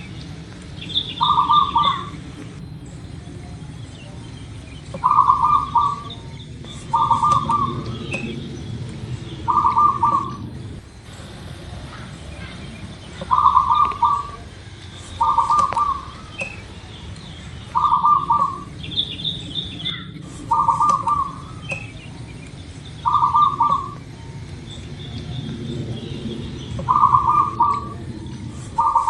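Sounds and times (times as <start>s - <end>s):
dove cooing: 0.0s - 29.0s
low hiss: 0.0s - 29.0s
small birds chirping: 0.0s - 29.0s.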